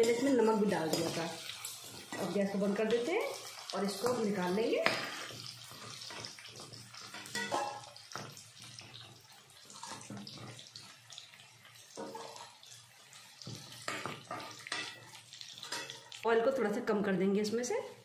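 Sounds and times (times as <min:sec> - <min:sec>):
hot oil hissing: 0:00.0 - 0:16.2.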